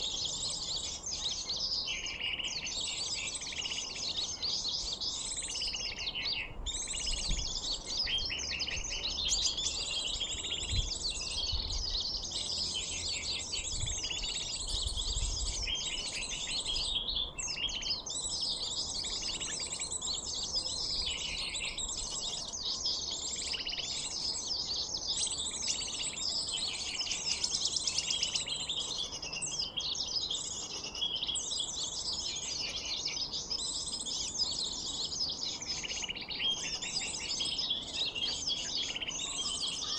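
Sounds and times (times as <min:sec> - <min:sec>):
high bird chirping and trilling: 0:00.0 - 0:39.9.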